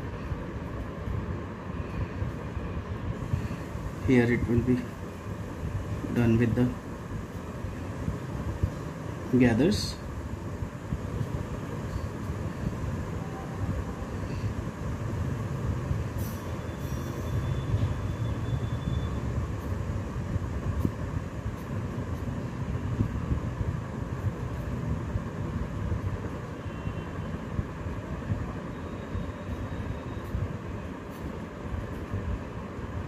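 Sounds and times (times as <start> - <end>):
low rumbling background noise: 0.0 - 33.0.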